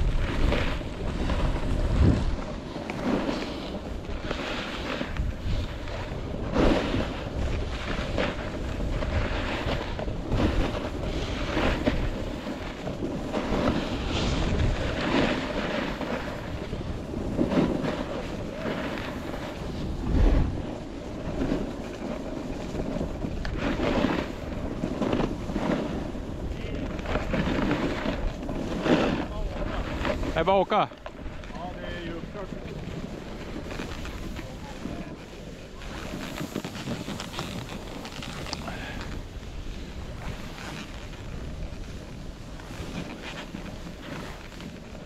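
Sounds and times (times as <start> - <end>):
skis scraping over snow: 0.0 - 45.0
wind on microphone: 0.0 - 45.0.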